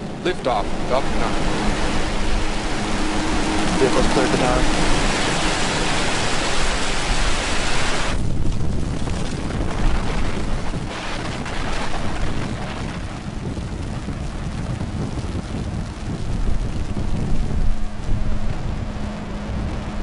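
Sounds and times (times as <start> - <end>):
rocket engines roaring: 0.0 - 20.0.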